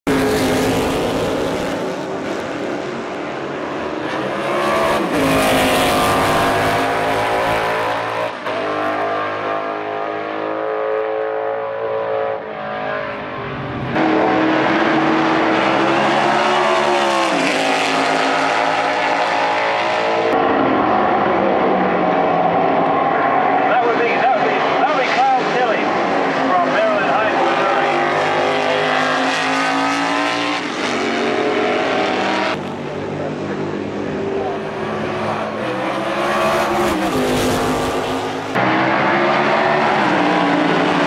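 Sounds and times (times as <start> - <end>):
racing car engine revving: 0.1 - 41.0.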